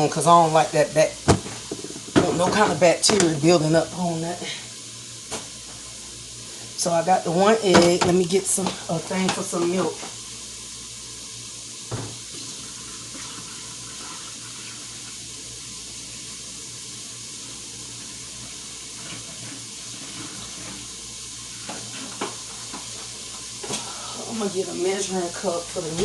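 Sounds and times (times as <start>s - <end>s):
vegetables sizzling in a pot: 0.0s - 26.0s.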